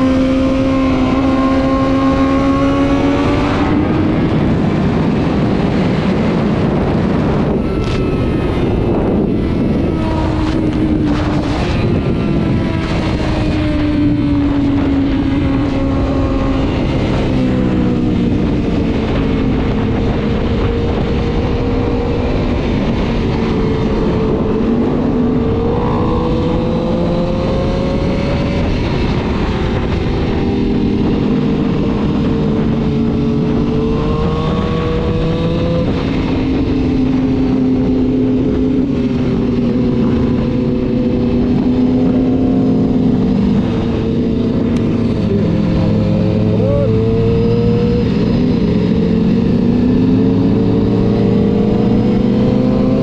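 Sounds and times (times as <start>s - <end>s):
continuous rushing noise: 0.0s - 53.0s
motorcycle engine running: 0.0s - 53.0s.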